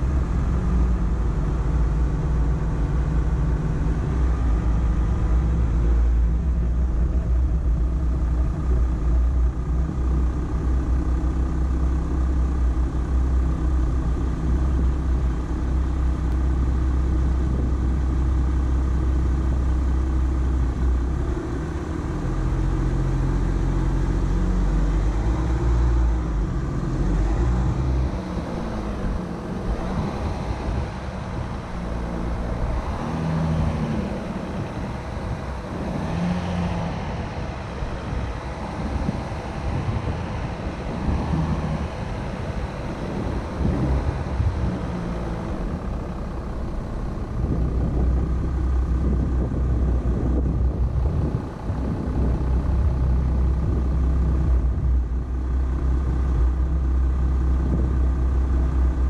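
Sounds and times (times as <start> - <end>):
pickup engine running: 0.0 - 59.0
rough rumble of vehicle: 0.0 - 59.0.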